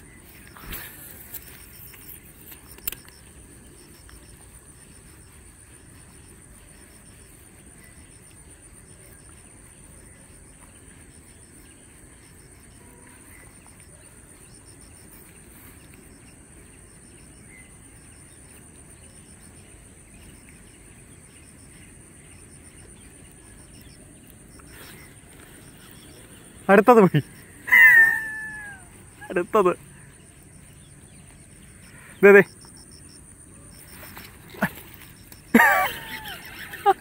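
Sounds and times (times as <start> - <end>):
fast pulsing insect chirp: 0.0 - 37.0
insects droning shrilly: 0.0 - 37.0.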